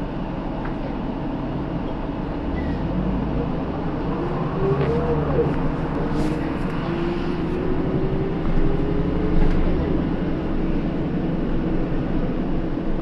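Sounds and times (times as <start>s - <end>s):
bus engine drone: 0.0s - 13.0s
engine whine: 0.0s - 13.0s
road rumble: 0.0s - 13.0s.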